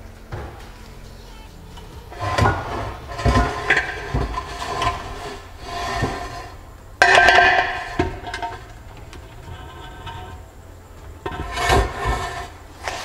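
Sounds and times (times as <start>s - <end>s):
metal knocking and clunking: 0.0s - 1.0s, 1.7s - 13.0s
metal clanking and scraping: 0.0s - 13.0s.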